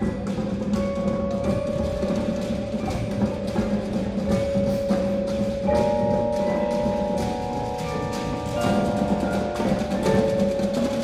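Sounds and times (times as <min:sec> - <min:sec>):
drums: 0:00.0 - 0:11.0
mallet keyboards: 0:00.0 - 0:11.0.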